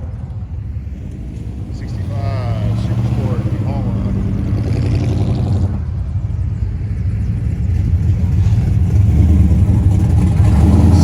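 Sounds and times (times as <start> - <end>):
car engine driving past: 0.2 - 6.8, 8.2 - 11.0.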